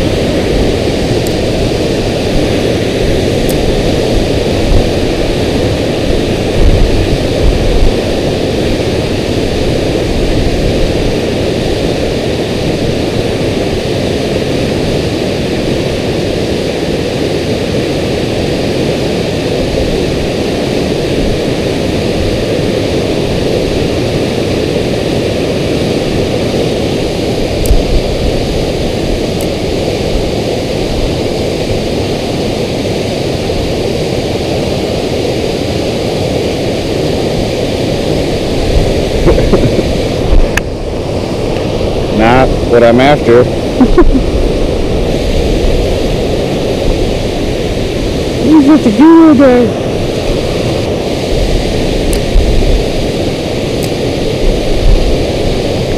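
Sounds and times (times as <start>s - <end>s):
water rushing over dam spillway: 0.0s - 55.9s.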